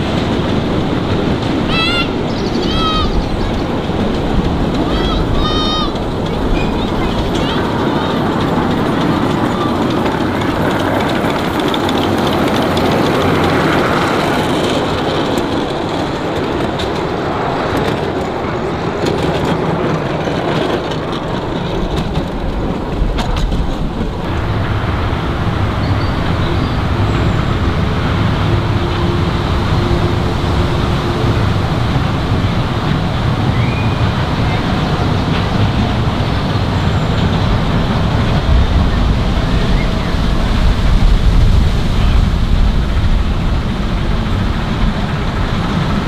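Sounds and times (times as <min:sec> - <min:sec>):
miniature steam train rumbling: 0:00.0 - 0:46.0.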